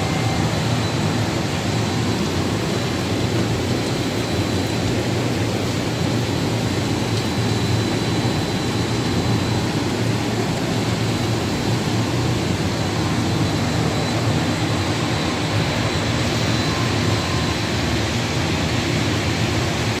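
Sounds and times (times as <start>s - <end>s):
factory machinery running: 0.0s - 20.0s
faint high whine: 0.0s - 20.0s.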